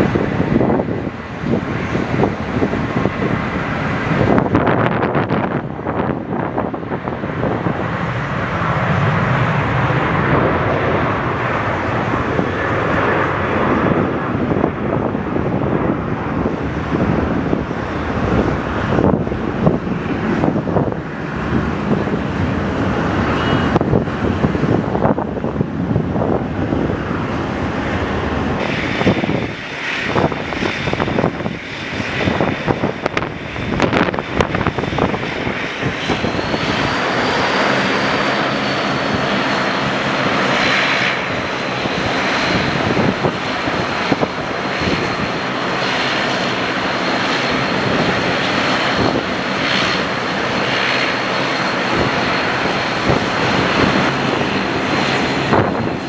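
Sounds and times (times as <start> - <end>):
jet engine rushing: 0.0 - 56.0
jet engine whine: 0.0 - 56.0.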